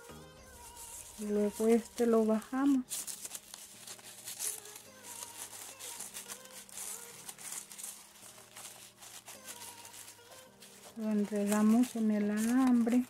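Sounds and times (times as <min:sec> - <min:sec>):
faint background music: 0:00.0 - 0:13.0
crepe paper rustling and crinkling: 0:00.5 - 0:13.0.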